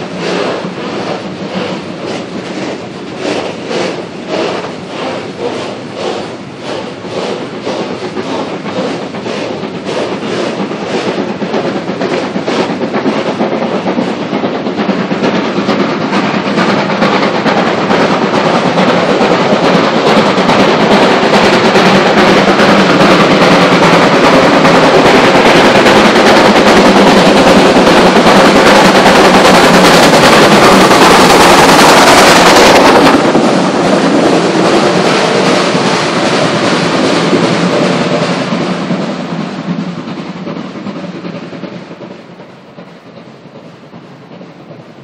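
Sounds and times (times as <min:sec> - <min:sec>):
freight train rolling: 0:00.0 - 0:45.0
steam locomotive exhaust beats: 0:00.0 - 0:45.0.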